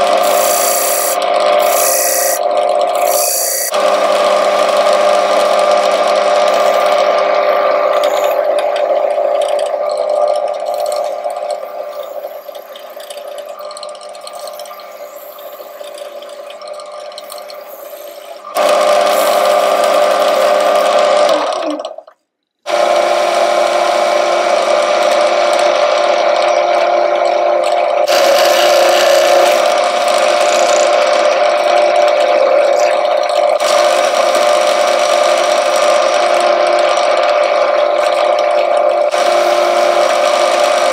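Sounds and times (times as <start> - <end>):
lathe motor humming: 0.0 - 21.9, 22.7 - 40.9.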